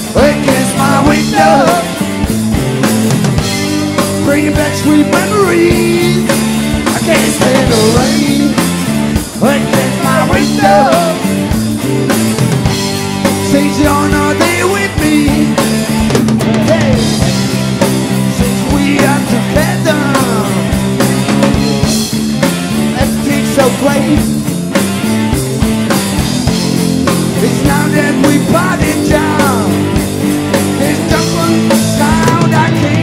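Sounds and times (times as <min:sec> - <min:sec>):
bass guitar: 0:00.0 - 0:33.0
drum kit: 0:00.0 - 0:33.0
electric guitars: 0:00.0 - 0:33.0.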